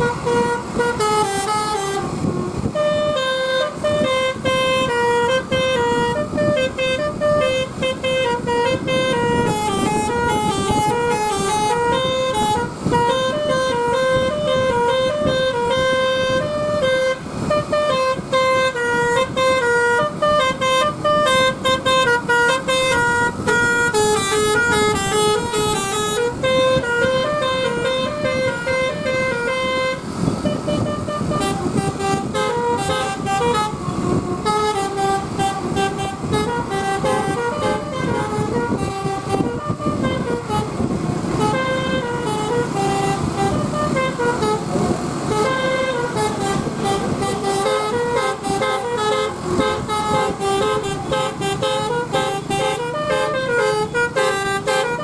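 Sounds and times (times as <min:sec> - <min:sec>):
bus and road rumble: 0:00.0 - 0:55.0
bus horn playing a melody: 0:00.0 - 0:55.0.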